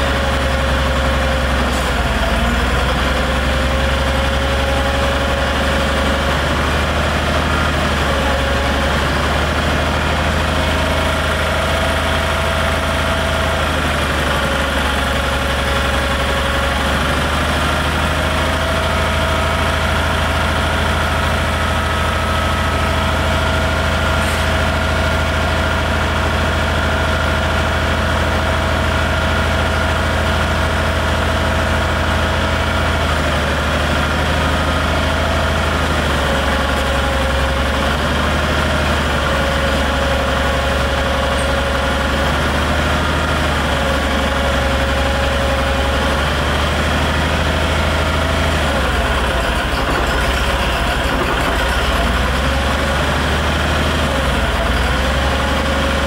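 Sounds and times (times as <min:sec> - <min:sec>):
engine running with low hum: 0:00.0 - 0:56.0.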